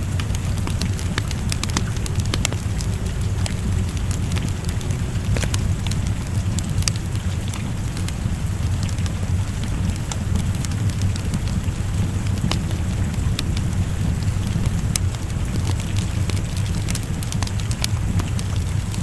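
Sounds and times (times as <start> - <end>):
rain hissing: 0.0 - 19.0
wood fire crackling and popping: 0.0 - 19.0.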